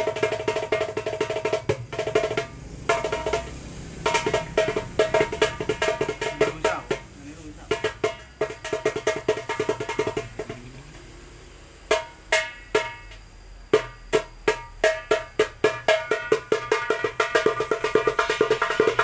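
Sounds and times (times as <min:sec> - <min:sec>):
hand drum strokes and rolls: 0:00.0 - 0:19.0.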